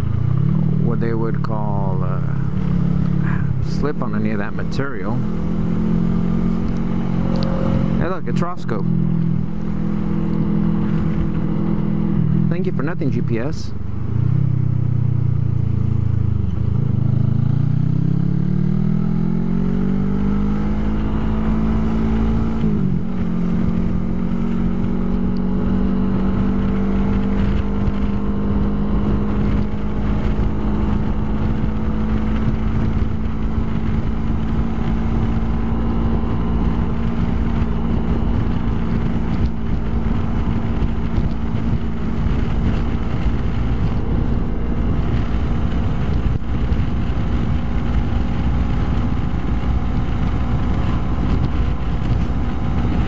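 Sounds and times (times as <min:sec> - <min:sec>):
motorcycle engine accelerating: 0:00.0 - 0:53.0
wind noise: 0:00.0 - 0:53.0.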